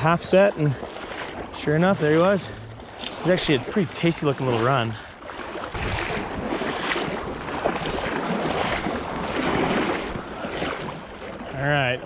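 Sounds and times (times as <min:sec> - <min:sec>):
river current rushing: 0:00.5 - 0:12.0
wind buffeting microphone: 0:00.5 - 0:12.0.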